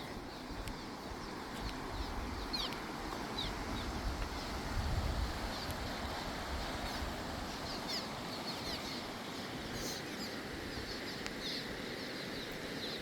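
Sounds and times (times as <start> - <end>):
birds chirping: 0.0 - 4.6, 5.4 - 13.0
flowing river water: 0.0 - 13.0.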